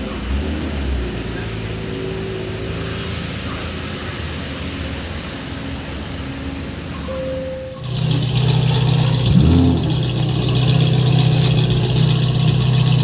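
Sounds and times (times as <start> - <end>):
car engines: 0.0 - 13.0.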